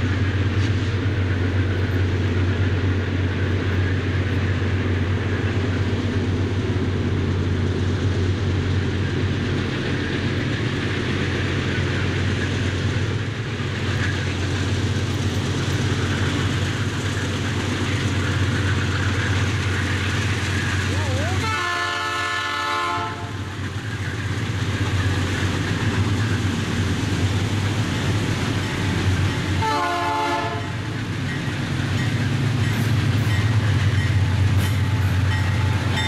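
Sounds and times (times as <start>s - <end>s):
diesel locomotive engine rumble: 0.0s - 36.0s.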